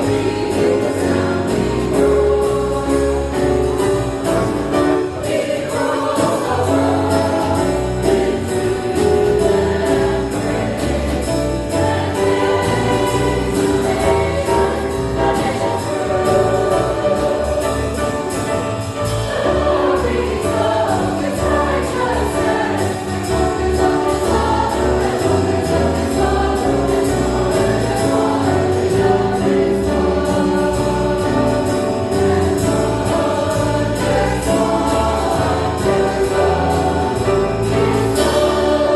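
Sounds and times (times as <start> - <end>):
choir singing with jazz band: 0.0 - 38.9.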